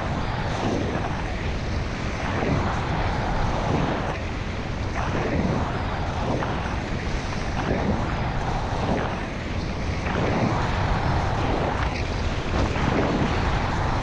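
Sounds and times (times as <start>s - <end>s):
skis hissing and scraping on snow: 0.0s - 14.0s
wind rushing over microphone: 0.0s - 14.0s.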